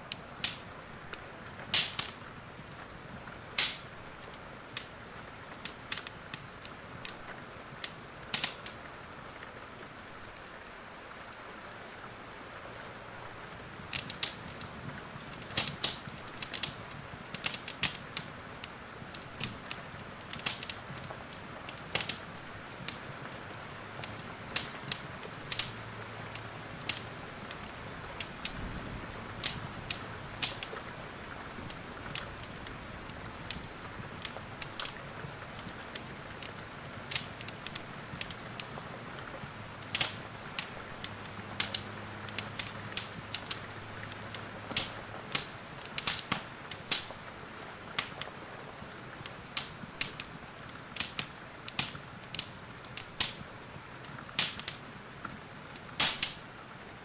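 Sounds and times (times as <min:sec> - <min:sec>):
rain hiss: 0:00.0 - 0:57.0
wood fire crackling: 0:00.0 - 0:57.0.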